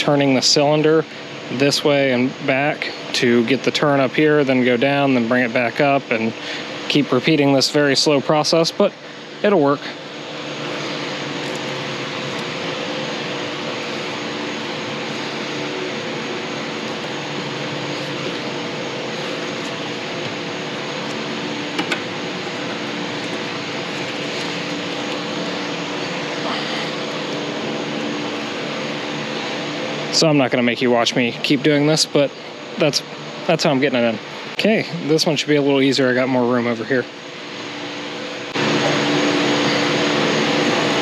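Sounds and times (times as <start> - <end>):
machine drone: 4.6 - 41.0.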